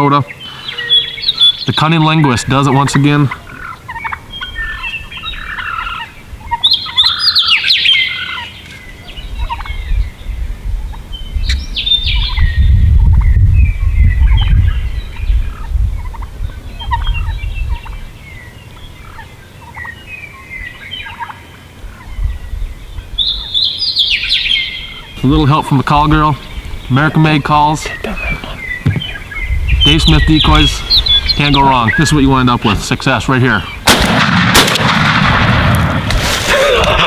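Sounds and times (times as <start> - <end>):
turkeys gobbling: 0.0 - 9.9, 14.2 - 37.0.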